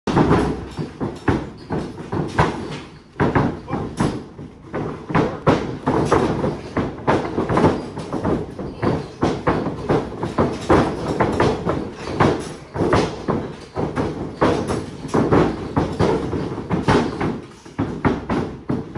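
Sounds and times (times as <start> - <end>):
thuds on wrestling mat: 0.1 - 18.9.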